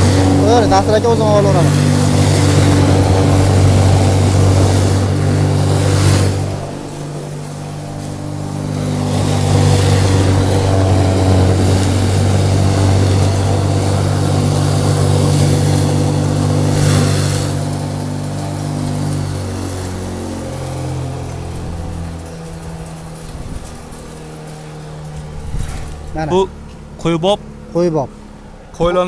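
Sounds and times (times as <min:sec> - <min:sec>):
motor hum: 0:00.0 - 0:29.0
straw and feed grinding: 0:00.0 - 0:29.0.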